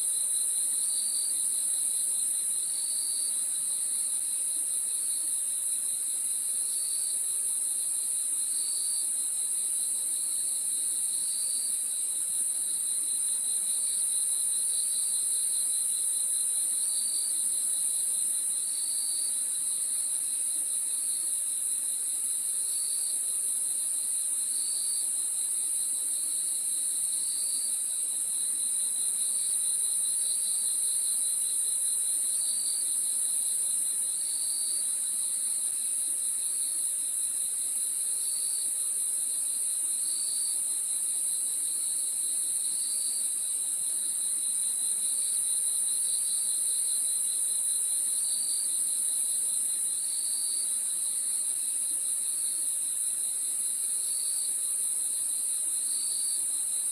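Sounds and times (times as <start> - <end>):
crickets trilling: 0.1 - 56.9.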